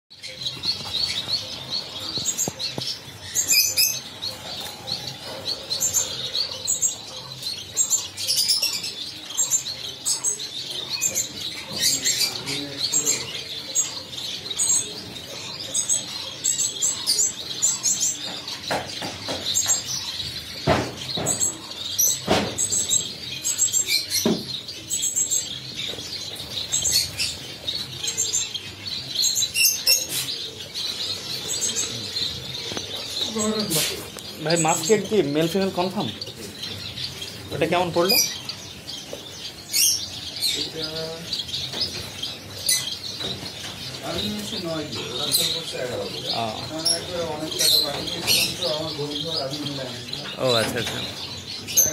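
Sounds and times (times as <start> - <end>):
finches chirping and twittering: 0.1 - 51.9.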